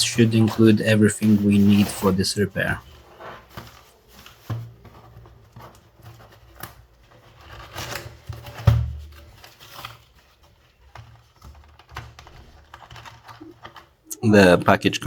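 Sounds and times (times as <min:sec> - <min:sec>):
packaging rustling and scraping: 0:00.0 - 0:14.6.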